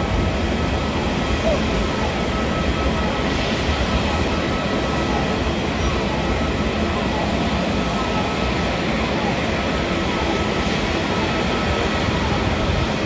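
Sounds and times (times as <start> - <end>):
jet engines rumbling and whining: 0.0 - 13.0.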